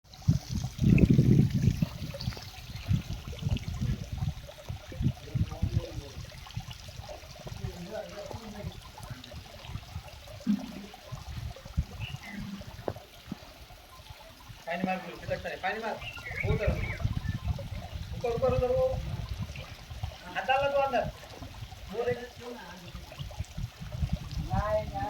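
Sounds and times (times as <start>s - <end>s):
water splashing and trickling: 0.0s - 25.0s.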